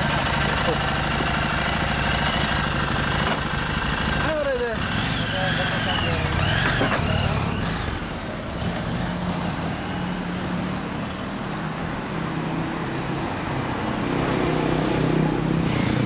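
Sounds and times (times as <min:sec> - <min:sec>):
motorcycle moving slowly: 0:00.0 - 0:12.0, 0:13.8 - 0:16.0
car engines at low speed: 0:00.0 - 0:16.0.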